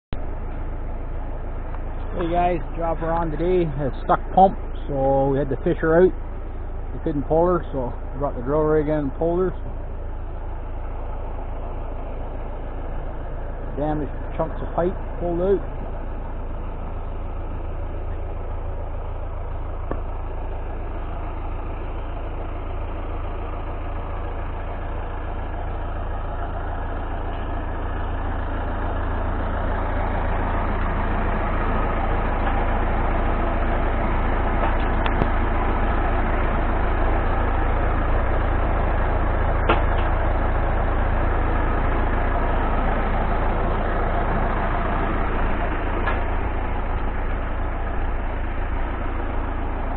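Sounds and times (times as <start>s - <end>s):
drill rig engine running: 0.1s - 49.9s.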